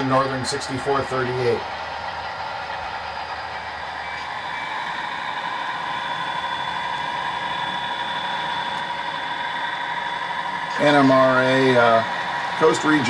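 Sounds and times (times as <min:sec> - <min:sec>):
model locomotives humming: 0:00.0 - 0:13.0.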